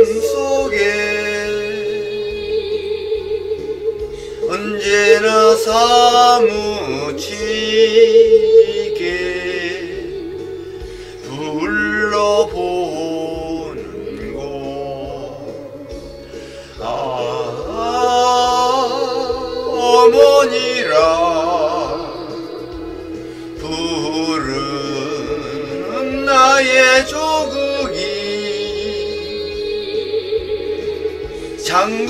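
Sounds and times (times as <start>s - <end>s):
person singing slow song: 0.0s - 32.0s.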